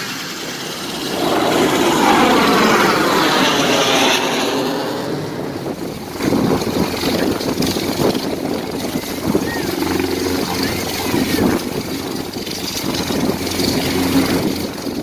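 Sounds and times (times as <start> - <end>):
helicopter rotor chopping: 0.0 - 15.0
jet fighter roaring overhead: 0.0 - 15.0.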